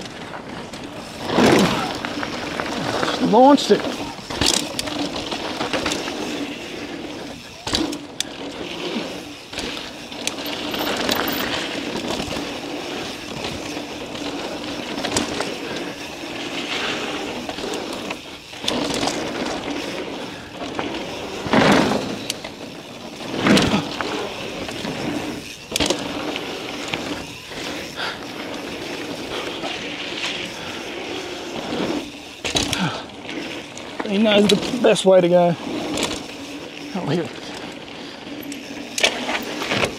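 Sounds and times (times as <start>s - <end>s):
bike thudding over bumps: 0.0s - 39.9s
bike tyre and frame rattle: 0.0s - 39.9s.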